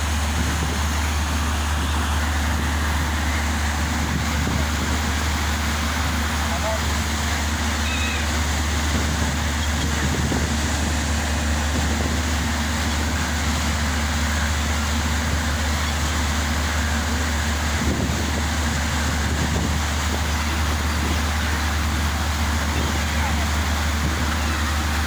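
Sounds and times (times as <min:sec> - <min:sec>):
ship engine drone: 0:00.0 - 0:25.0
water noise: 0:00.0 - 0:25.0.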